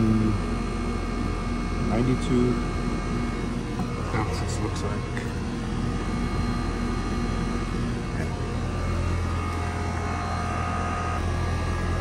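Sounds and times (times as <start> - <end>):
compressor humming: 0.0 - 12.0
condenser fan rushing: 0.0 - 12.0.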